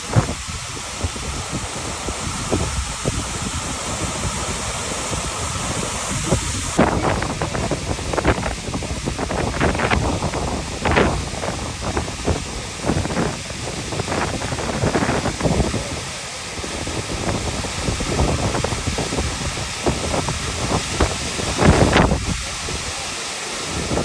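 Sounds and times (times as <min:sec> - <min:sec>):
waterfall rushing: 0:00.0 - 0:24.0
wind buffeting microphone: 0:00.0 - 0:24.0.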